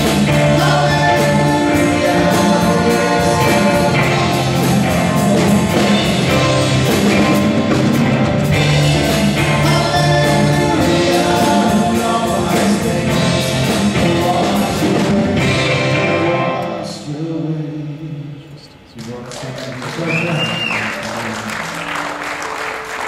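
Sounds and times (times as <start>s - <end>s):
worship band playing: 0.0s - 23.0s.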